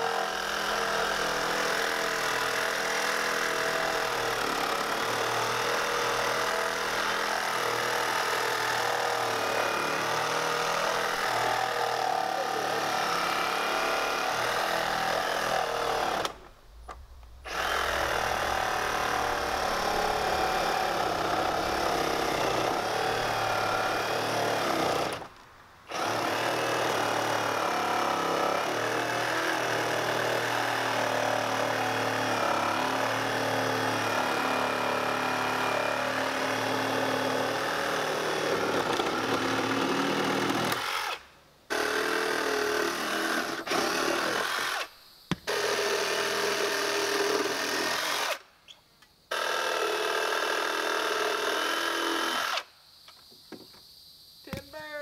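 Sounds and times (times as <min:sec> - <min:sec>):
power drill running under load: 0:00.0 - 0:16.4, 0:17.5 - 0:25.3, 0:25.9 - 0:48.4, 0:49.3 - 0:52.6.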